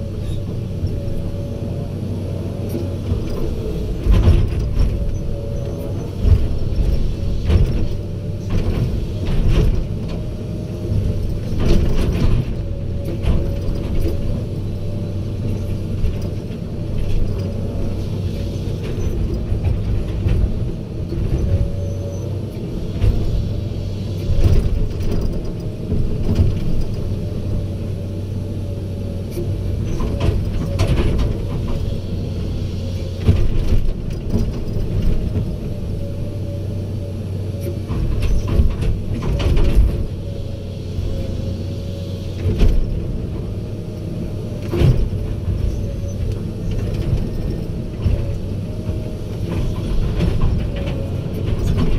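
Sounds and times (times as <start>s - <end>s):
diesel machinery humming: 0.0s - 51.9s.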